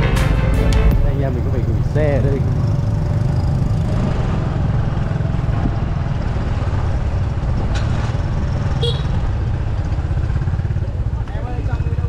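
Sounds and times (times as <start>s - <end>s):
engine rumbling steadily: 0.0s - 12.0s.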